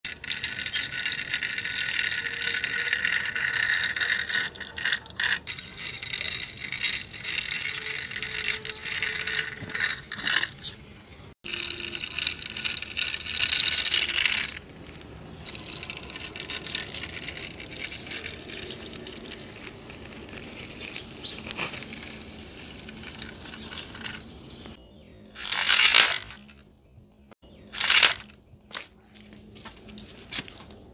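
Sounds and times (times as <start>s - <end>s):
plastic wheels scraping on grit: 0.1s - 10.8s, 11.4s - 24.8s, 25.4s - 26.6s, 27.7s - 28.4s.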